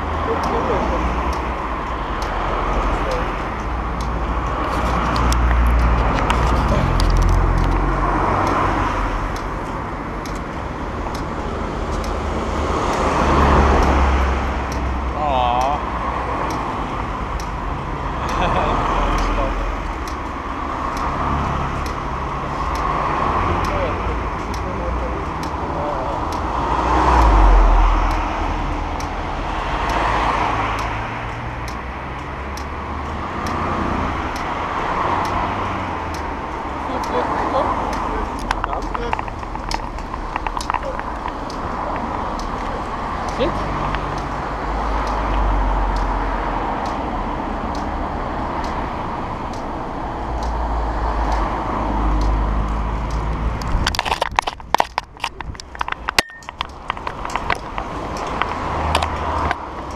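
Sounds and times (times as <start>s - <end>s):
cars passing close by: 0.0s - 59.9s
faint regular clicks: 0.0s - 59.9s.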